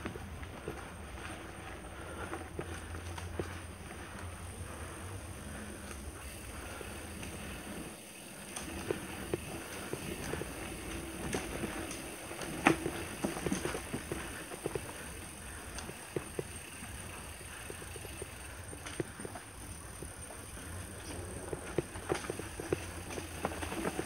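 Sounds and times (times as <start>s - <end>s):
bike knocking and rattling: 0.0s - 24.0s
bike tyres rolling on dirt: 0.0s - 24.0s.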